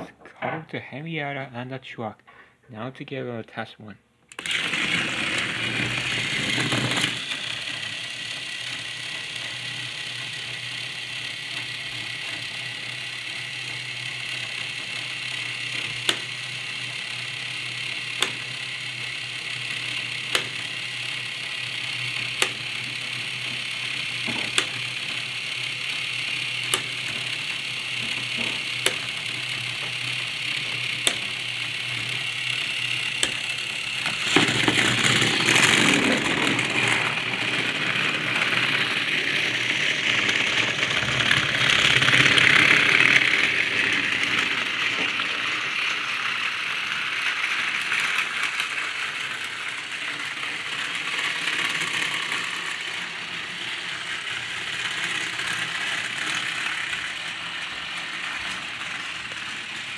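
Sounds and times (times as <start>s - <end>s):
toy train motor whirring: 4.3s - 59.9s.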